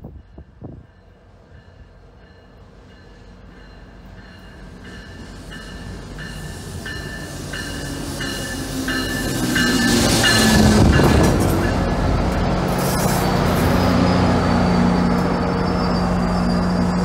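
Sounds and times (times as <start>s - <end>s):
commuter train rumble: 0.0s - 17.0s.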